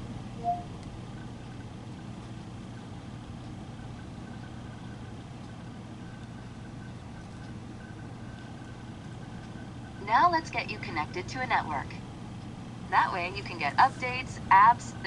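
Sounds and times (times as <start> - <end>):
faint wavering whine: 0.0 - 1.8, 2.6 - 15.0
steady low hum: 0.0 - 15.0.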